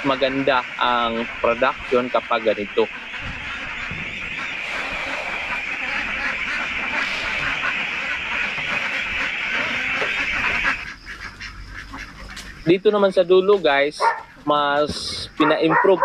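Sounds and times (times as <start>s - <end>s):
flock of ducks quacking: 0.0s - 16.0s.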